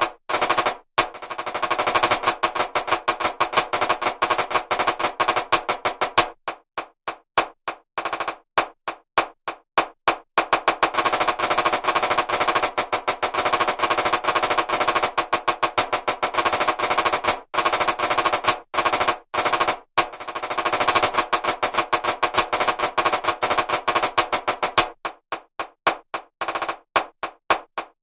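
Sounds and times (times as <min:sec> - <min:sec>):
stick-click metronome: 0:00.0 - 0:17.4, 0:20.0 - 0:27.9
marching snare drum strokes: 0:00.0 - 0:28.0.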